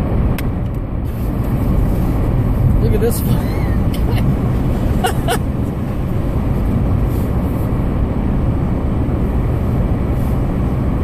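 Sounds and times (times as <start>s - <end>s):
low road rumble in car cabin: 0.0s - 11.0s.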